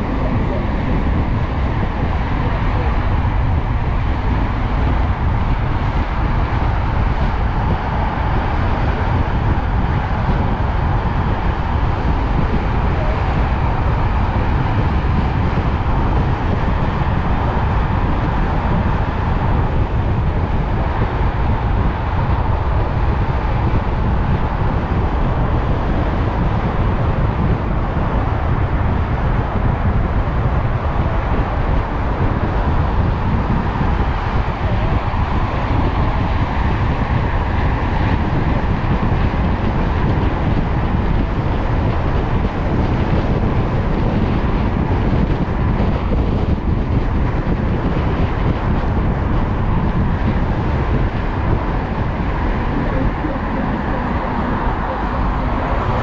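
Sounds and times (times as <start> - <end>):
road noise low rumble: 0.0 - 56.0
wind rush: 0.0 - 56.0.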